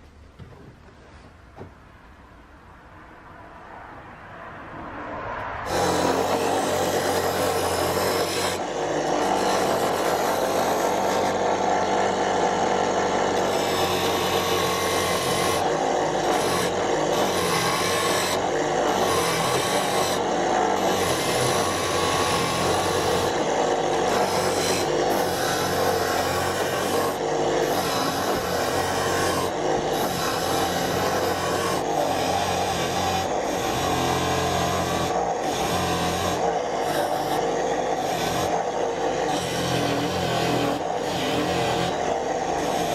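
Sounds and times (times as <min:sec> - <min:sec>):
angle grinder grinding wood: 0:05.7 - 0:42.9.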